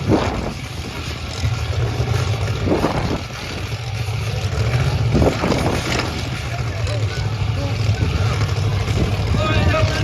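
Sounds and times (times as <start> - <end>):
monster truck engines rumbling: 0.0 - 10.0.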